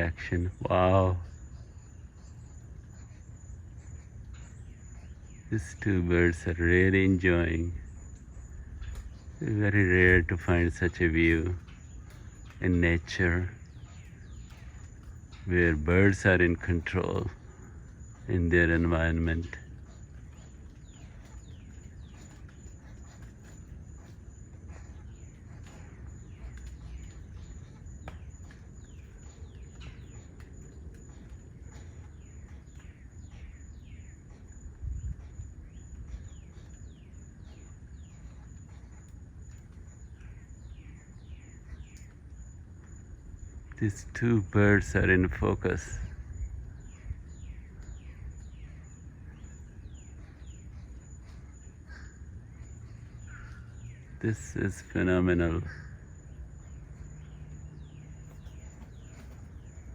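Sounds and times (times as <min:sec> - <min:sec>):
birds chirping downward sweeps: 0:00.0 - 0:44.2, 0:45.0 - 0:59.9
low outdoor rumble: 0:00.0 - 0:59.9.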